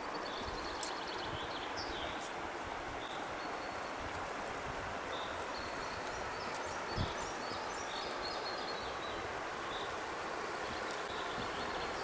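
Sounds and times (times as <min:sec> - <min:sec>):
small birds chirping: 0:00.0 - 0:04.2, 0:05.1 - 0:10.0, 0:10.6 - 0:12.0
steady background hiss: 0:00.0 - 0:12.0.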